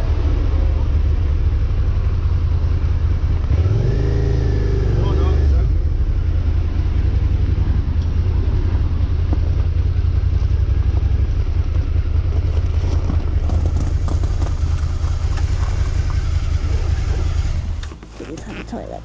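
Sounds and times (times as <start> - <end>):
motorcycle engine at low revs: 0.0 - 19.0.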